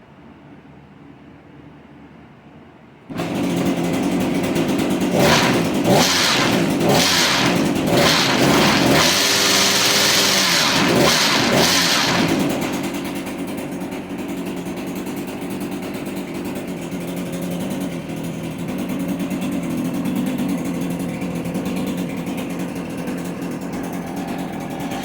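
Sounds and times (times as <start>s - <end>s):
pole saw engine revving: 3.1s - 13.9s, 15.8s - 25.0s.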